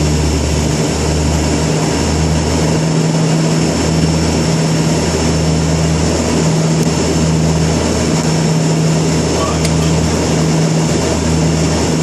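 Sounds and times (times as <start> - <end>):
turboprop propeller drone: 0.0 - 12.0.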